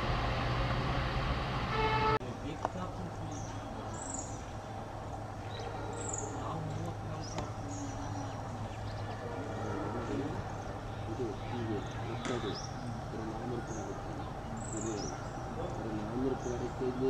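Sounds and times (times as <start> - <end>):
steady low hum: 0.0 - 17.0
birds chirping and calling: 2.2 - 17.0.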